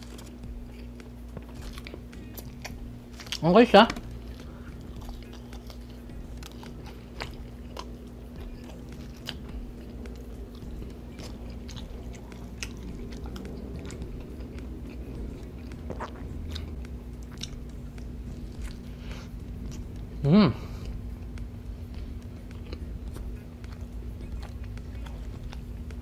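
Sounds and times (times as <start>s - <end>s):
chewing and crunching food: 0.0s - 26.0s
faint steady hum: 0.0s - 26.0s.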